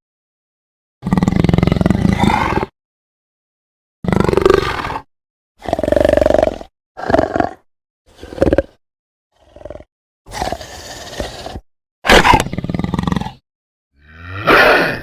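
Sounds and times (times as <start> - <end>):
wolf snarling and growling: 1.0 - 2.8, 4.0 - 13.4, 14.1 - 15.0.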